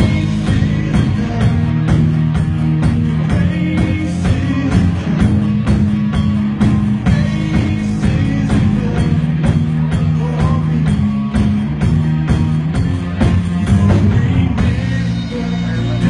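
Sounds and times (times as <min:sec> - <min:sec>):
drum beat: 0:00.0 - 0:15.2
worship band playing: 0:00.0 - 0:16.0.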